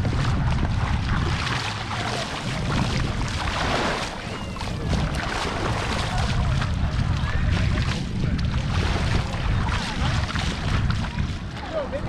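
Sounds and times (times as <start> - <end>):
small waves lapping: 0.0 - 12.0
wind rumbling on microphone: 0.0 - 12.0.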